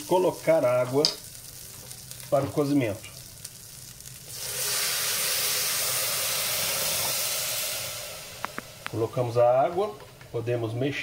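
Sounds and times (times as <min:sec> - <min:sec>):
water hissing on hot fat: 0:00.0 - 0:09.6.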